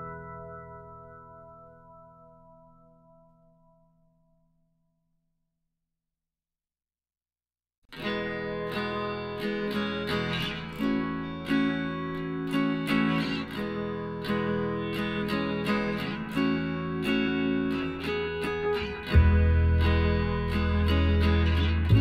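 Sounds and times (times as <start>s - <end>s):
acoustic guitar playing: 0.0s - 3.8s, 8.0s - 22.0s.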